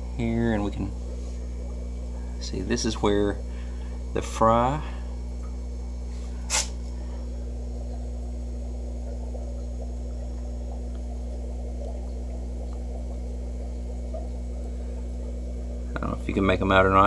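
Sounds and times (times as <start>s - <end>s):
water trickling and bubbling: 0.0s - 4.1s, 5.0s - 17.0s
aquarium pumps humming: 0.0s - 17.0s.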